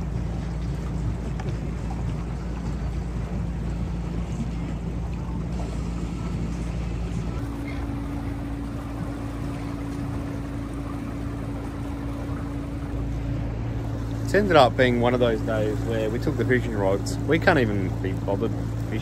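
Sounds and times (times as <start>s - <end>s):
electric outboard motor humming: 0.0s - 19.0s
water rushing: 0.0s - 19.0s
wind: 0.0s - 19.0s.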